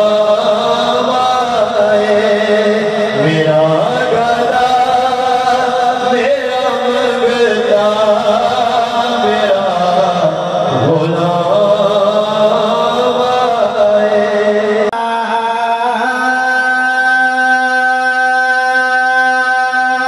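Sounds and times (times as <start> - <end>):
person chanting devotional song: 0.0 - 20.0.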